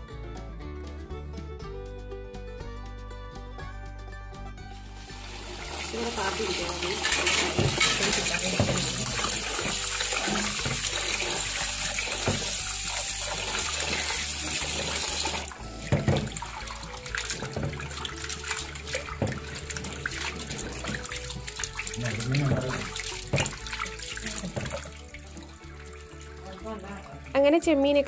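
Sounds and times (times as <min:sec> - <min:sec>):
tap water running into a bowl: 0:04.8 - 0:27.8.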